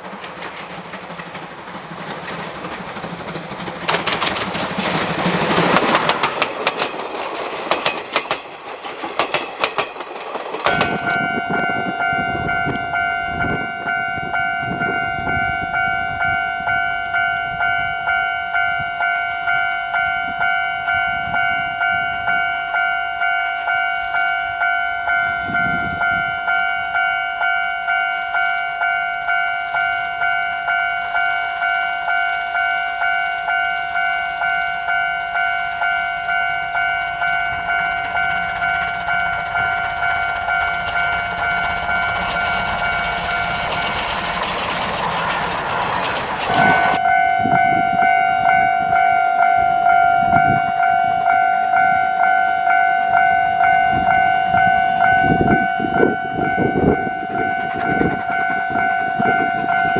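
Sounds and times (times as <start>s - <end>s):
steam locomotive rushing: 0.0s - 48.0s
level-crossing alarm ringing: 9.0s - 59.9s.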